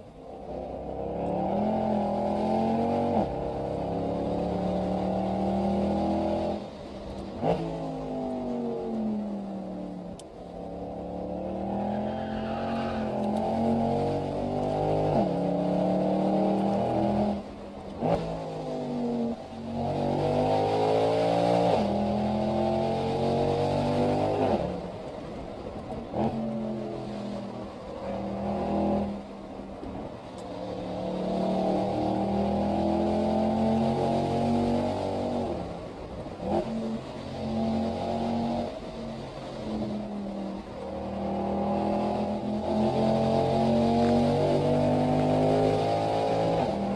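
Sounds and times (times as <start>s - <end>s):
car engine revving through gears: 0.4s - 24.8s, 25.8s - 46.9s.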